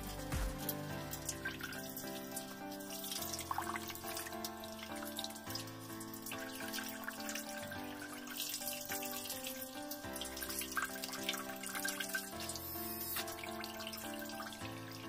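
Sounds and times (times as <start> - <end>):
background music: 0.0 - 15.0
water jet splashing into basin: 0.0 - 15.0.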